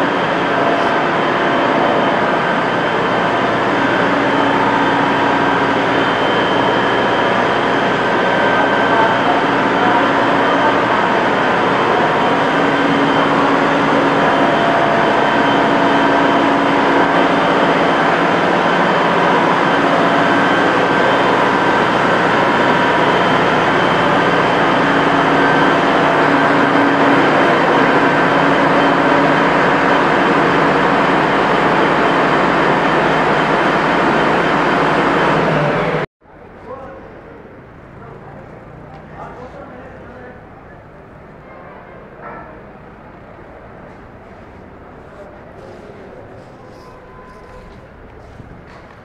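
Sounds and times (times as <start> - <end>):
diesel engine running: 0.0 - 41.4, 42.1 - 49.0.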